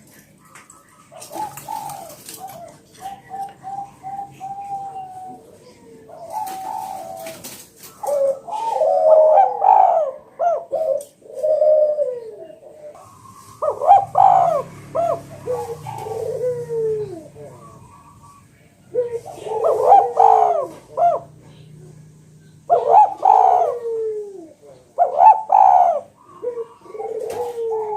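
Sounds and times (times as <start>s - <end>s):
doves cooing: 0.0s - 27.9s.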